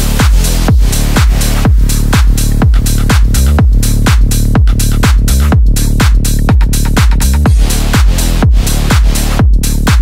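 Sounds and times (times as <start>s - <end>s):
electronic dance music: 0.0s - 10.0s
heavy kick drum: 0.0s - 10.0s
sustained bass line: 0.0s - 10.0s.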